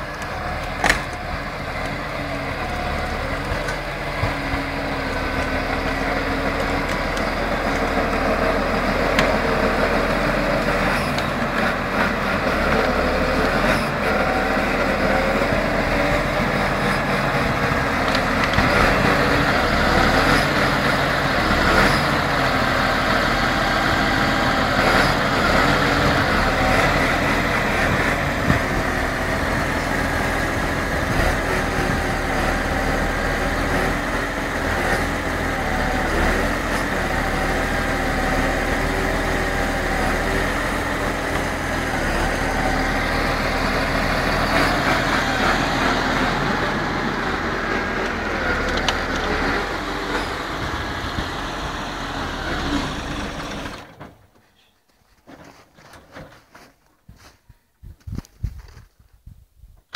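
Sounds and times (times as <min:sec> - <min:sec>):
tractor diesel engine running: 0:00.0 - 0:54.4.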